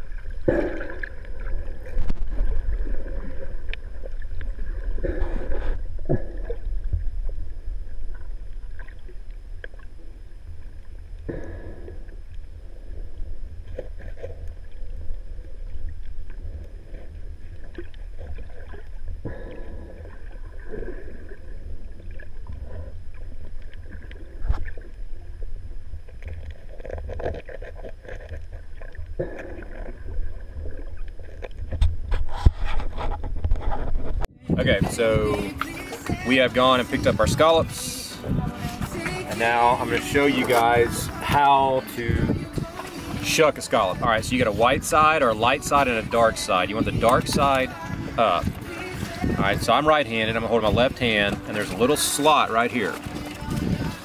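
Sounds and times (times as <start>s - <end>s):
water surges: 0.0s - 32.2s, 34.5s - 54.0s
muffled underwater water rumble: 0.0s - 54.0s.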